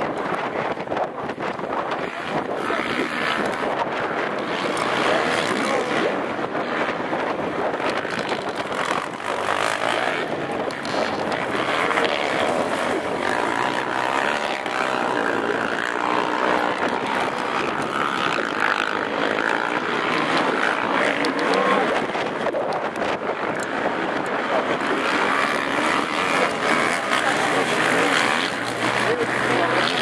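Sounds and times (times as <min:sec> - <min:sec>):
quad engines revving: 0:01.9 - 0:07.0, 0:07.7 - 0:30.0.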